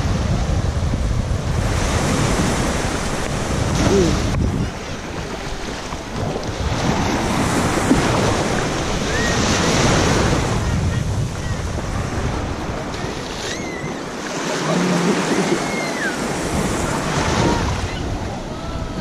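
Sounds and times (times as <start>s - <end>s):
surf waves washing on sand: 0.0s - 19.0s
wind rumbling on microphone: 0.0s - 19.0s.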